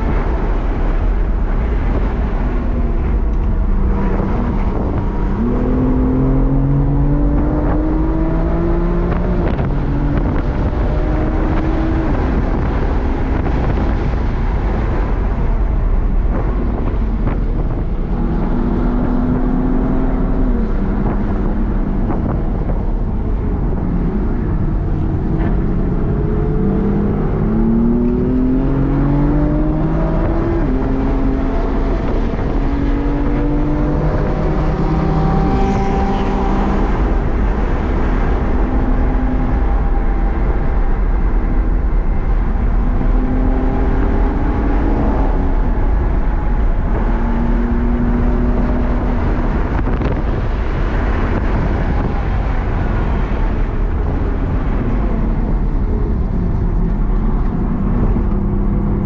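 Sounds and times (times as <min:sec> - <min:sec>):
car engine revving through gears: 0:00.0 - 0:59.0
wind and tyre noise: 0:00.0 - 0:59.0.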